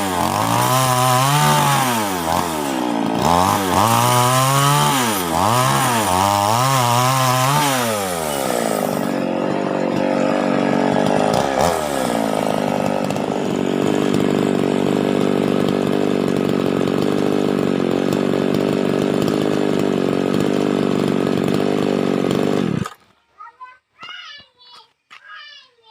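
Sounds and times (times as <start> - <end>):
chainsaw engine revving and idling: 0.0 - 23.1.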